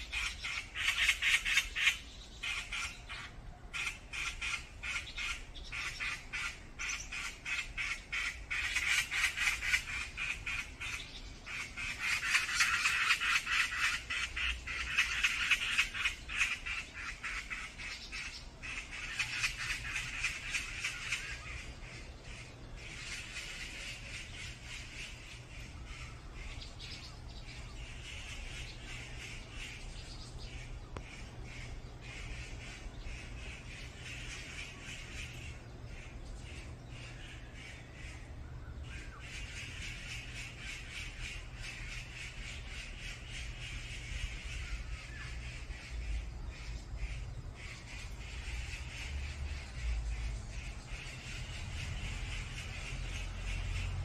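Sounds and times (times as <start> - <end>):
wild birds calling: 0.0 - 54.0.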